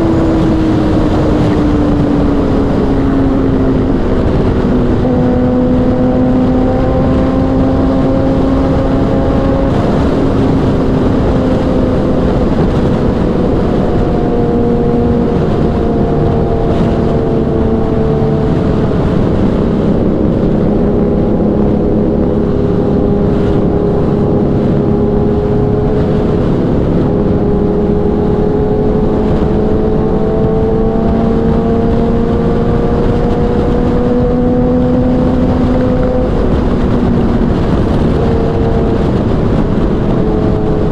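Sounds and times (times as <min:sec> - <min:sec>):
motorcycle engine at high revs: 0:00.0 - 0:40.9
wind rush: 0:00.0 - 0:40.9.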